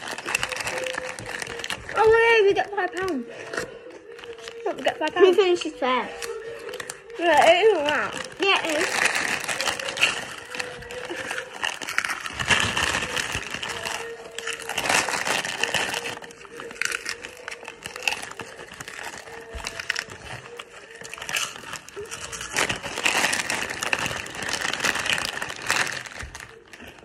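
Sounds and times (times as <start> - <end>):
crunching of crisps being eaten: 0.0 - 27.0
plastic snack bag crinkling: 0.0 - 27.0.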